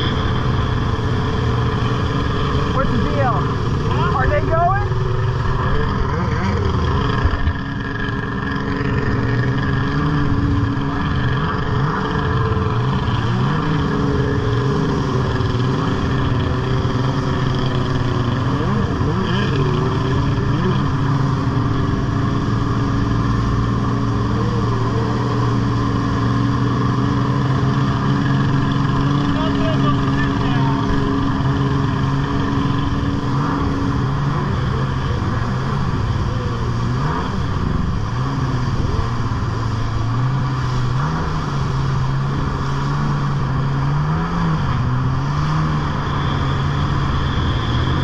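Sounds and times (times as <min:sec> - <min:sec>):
jet ski engine droning: 0:00.0 - 0:48.0
rush of spray and wind: 0:00.0 - 0:48.0.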